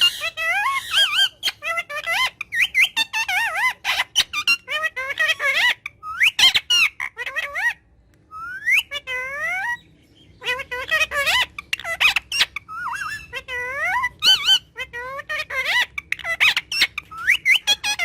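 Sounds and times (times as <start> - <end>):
parrot chattering and whistling: 0.0 - 18.0.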